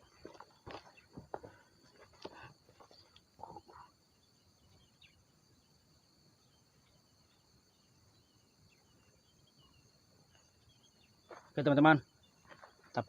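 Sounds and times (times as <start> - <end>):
faint chirps: 0.0 - 13.0
insects droning: 0.0 - 13.0.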